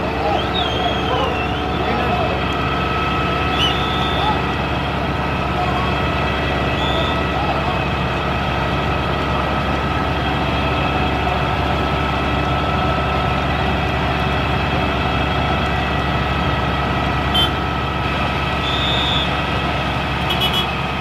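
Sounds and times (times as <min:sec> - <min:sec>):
fire truck engine running: 0:00.0 - 0:21.0.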